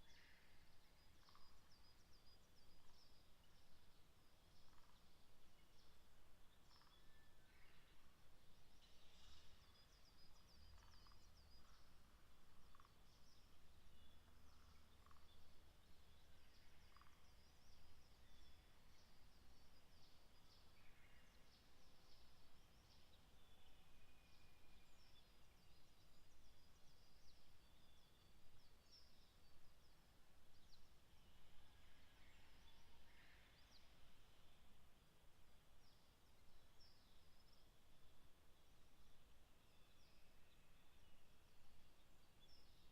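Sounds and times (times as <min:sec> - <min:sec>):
faint bird chirps: 0:00.0 - 0:42.9
faint low rumble: 0:00.0 - 0:42.9.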